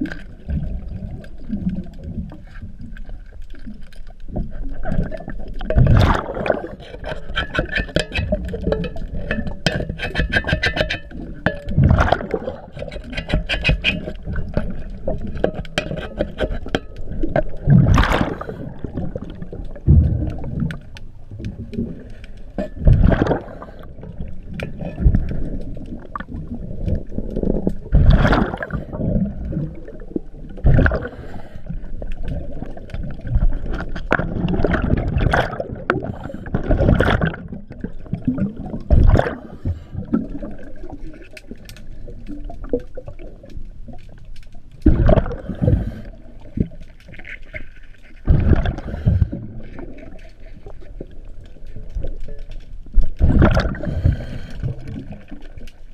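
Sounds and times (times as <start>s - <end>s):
underwater bubbles gurgling: 0.0s - 55.9s.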